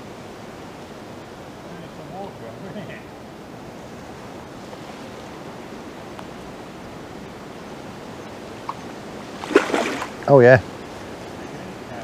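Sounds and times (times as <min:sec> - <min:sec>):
moving water: 0:00.0 - 0:12.0
wind: 0:00.0 - 0:12.0.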